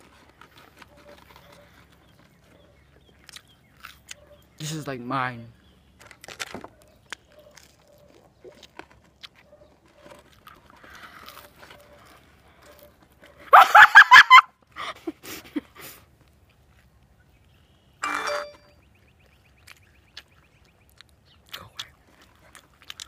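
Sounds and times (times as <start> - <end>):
chewing and mouth clicks: 0.0 - 4.6, 5.7 - 13.5, 15.6 - 17.8, 18.9 - 23.0.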